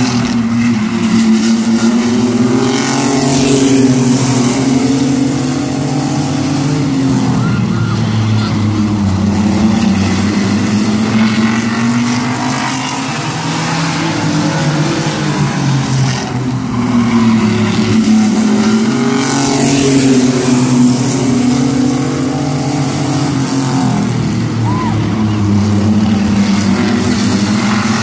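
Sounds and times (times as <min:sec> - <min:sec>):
race truck engines revving: 0:00.0 - 0:28.0.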